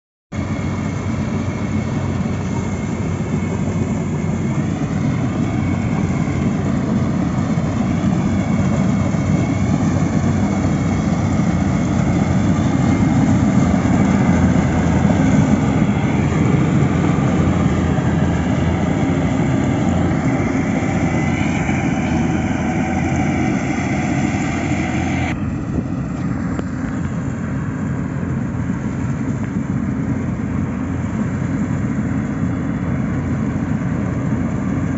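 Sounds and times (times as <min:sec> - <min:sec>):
loud engine noise: 0:00.4 - 0:34.9.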